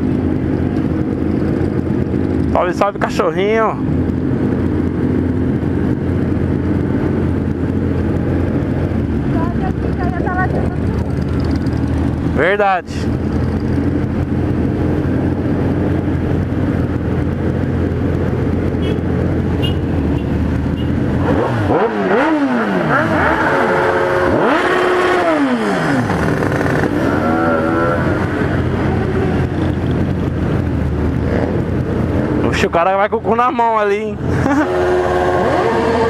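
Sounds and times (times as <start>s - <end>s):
motorcycle engines revving: 0.0s - 36.0s
motorcycle engines running: 0.0s - 36.0s.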